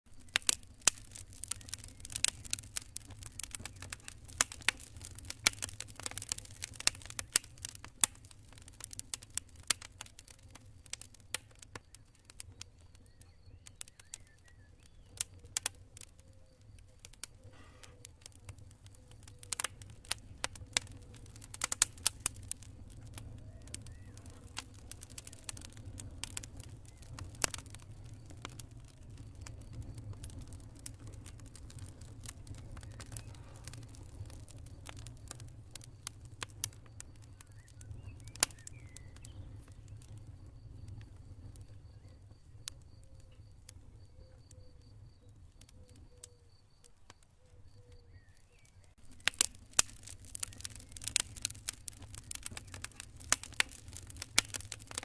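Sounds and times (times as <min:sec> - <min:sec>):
campfire crackling and popping: 0:00.1 - 0:55.0.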